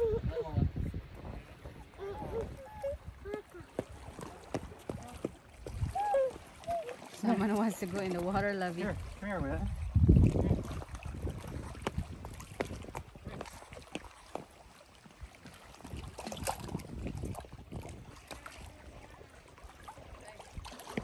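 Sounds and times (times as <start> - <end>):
wind rumbling on microphone: 0.0 - 14.1, 15.2 - 21.0
small waves lapping on rocks: 0.0 - 21.0.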